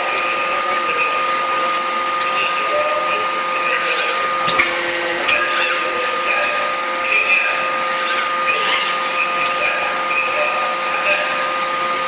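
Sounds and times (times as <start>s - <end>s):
industrial machinery hiss and whine: 0.0s - 12.0s.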